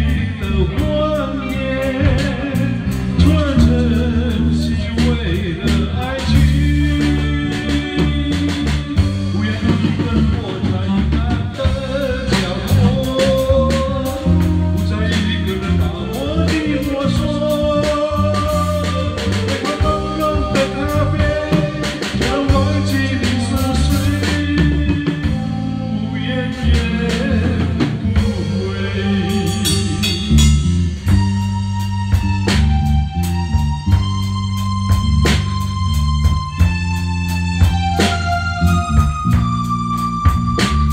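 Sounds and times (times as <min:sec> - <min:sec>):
pop band playing: 0:00.0 - 0:40.9
sliding bending melody line: 0:00.0 - 0:40.9.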